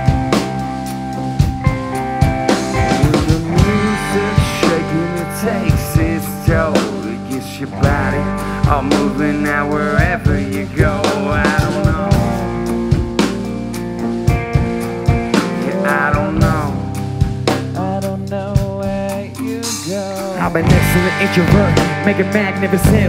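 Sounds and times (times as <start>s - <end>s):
bending lead guitar melody: 0.0s - 23.0s
live rock band playing: 0.0s - 23.0s.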